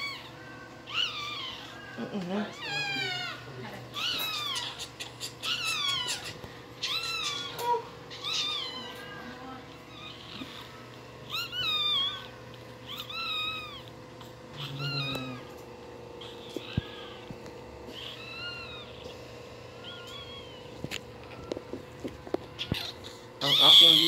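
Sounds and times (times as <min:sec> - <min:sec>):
puppy crying: 0:00.0 - 0:21.8, 0:22.4 - 0:24.0.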